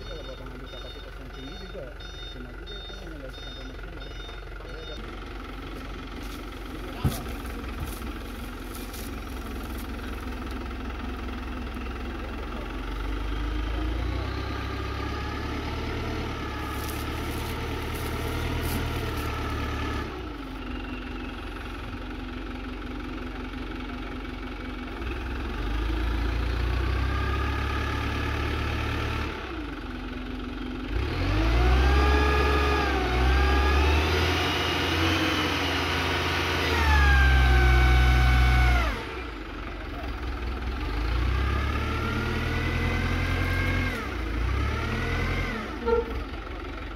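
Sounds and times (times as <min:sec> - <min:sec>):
diesel truck engine revving: 0:00.0 - 0:22.2, 0:24.8 - 0:46.9.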